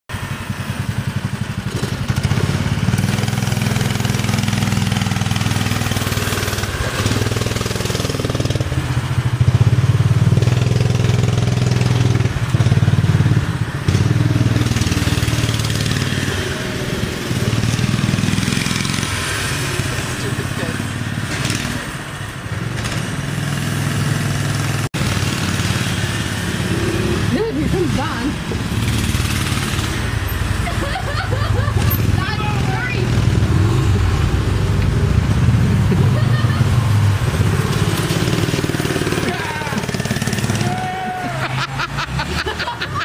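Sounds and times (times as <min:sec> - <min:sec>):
mini bike engine running: 0:00.3 - 0:21.9, 0:22.5 - 0:43.0.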